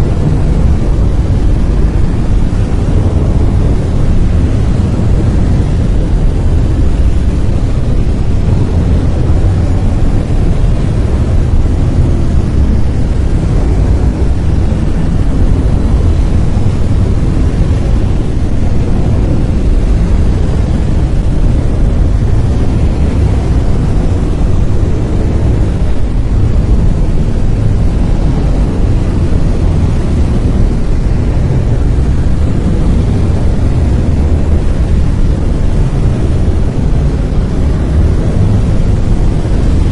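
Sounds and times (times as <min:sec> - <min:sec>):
deep rushing hiss: 0:00.0 - 0:39.9.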